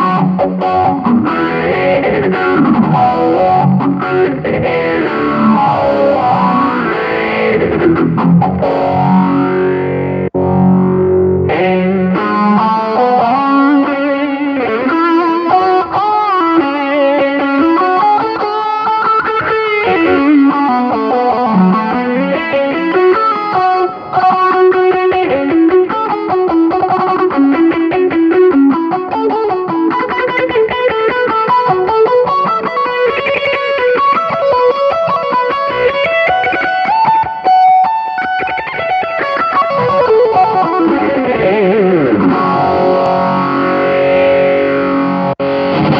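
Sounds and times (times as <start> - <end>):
electric guitar lead melody: 0.0 - 45.9.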